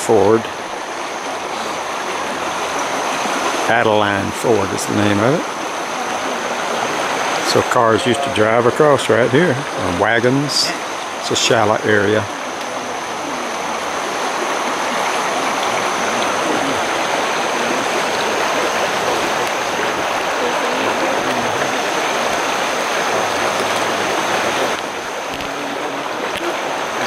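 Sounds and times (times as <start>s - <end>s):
water rushing over rocks: 0.0s - 27.0s.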